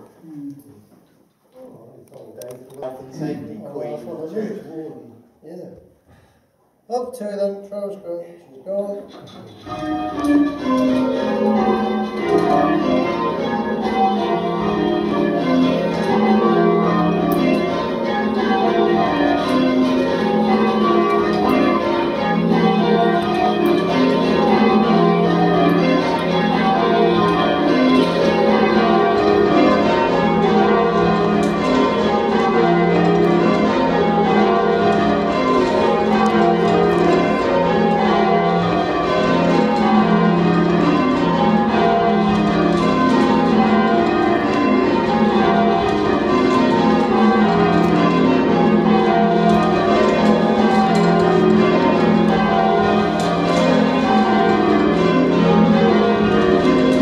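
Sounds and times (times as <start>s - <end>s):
church bells change ringing: 9.3s - 57.0s.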